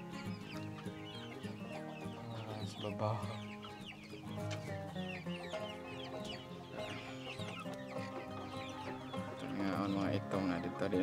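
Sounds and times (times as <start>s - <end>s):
background music: 0.0s - 11.0s
chickens clucking and peeping: 0.0s - 11.0s.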